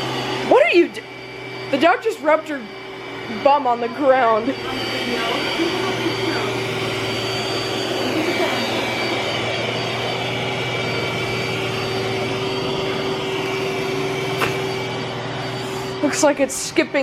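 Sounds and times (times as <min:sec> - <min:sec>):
robot vacuum running: 0:00.0 - 0:17.0.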